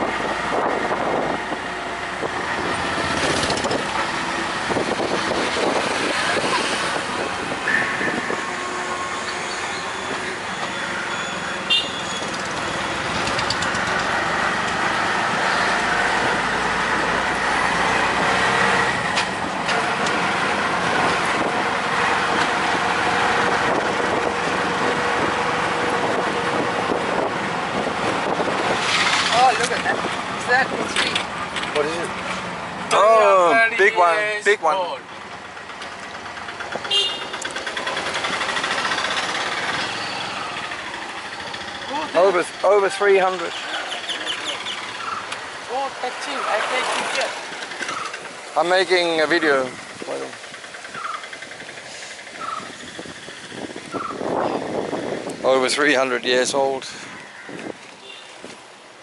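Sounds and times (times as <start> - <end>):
road and traffic noise: 0.0 - 59.0.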